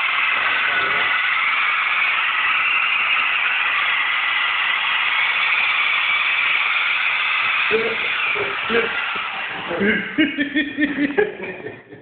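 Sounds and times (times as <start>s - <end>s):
toy helicopter rotors whirring: 0.0s - 10.2s.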